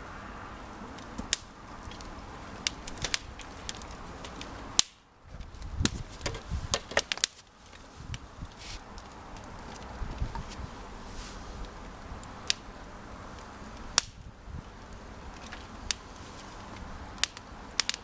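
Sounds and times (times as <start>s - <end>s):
wood fire crackling and popping: 0.6s - 18.0s.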